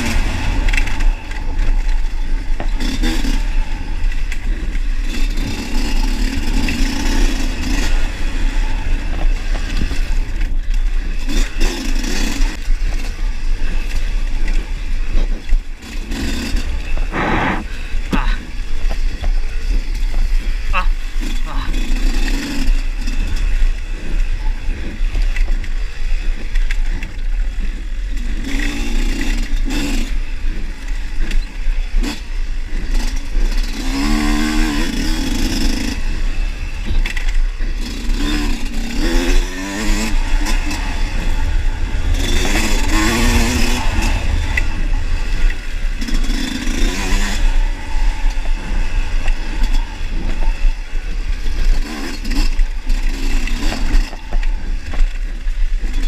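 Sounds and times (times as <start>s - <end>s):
bike rattling and scraping: 0.0s - 56.0s
dirt bike engine revving: 0.0s - 56.0s
wind rumble on microphone: 0.0s - 56.0s.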